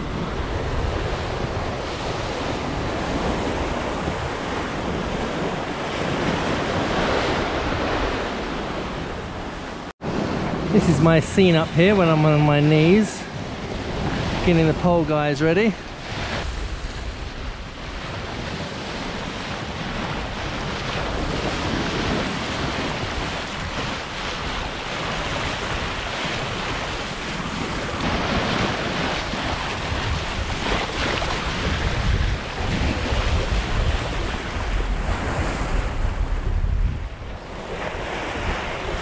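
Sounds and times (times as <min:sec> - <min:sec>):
sea rushing and breaking: 0:00.0 - 0:39.0
wind gusting over microphone: 0:00.0 - 0:39.0.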